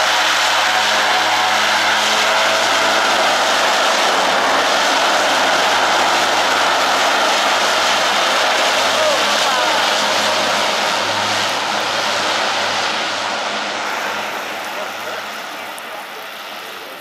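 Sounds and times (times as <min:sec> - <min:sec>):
turboprop engines roaring: 0:00.0 - 0:17.0.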